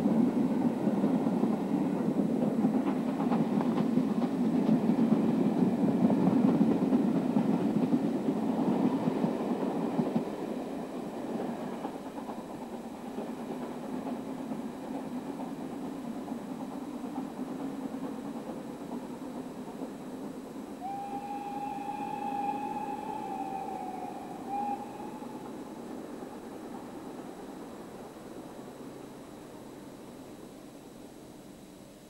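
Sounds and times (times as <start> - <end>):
steam train running: 0.0 - 31.9.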